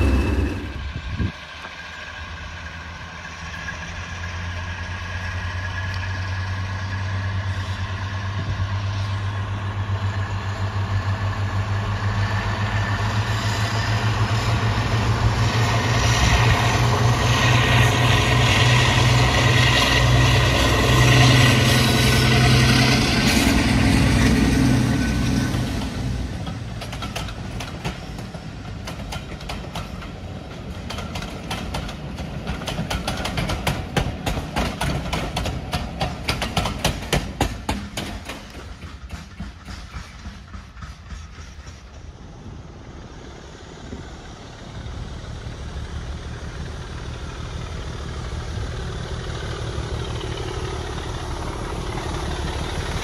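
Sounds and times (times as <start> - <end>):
diesel locomotive engine drone: 0.0 - 53.0
train wheels clicking over rail joints: 0.0 - 53.0.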